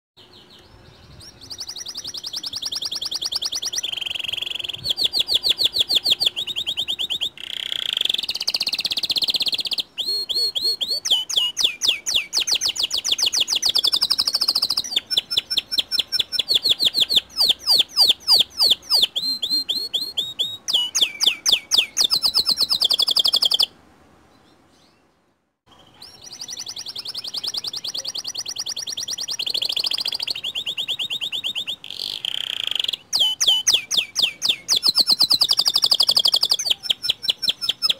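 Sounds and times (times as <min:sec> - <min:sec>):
canary singing trills: 0:00.2 - 0:25.1, 0:25.7 - 0:37.9.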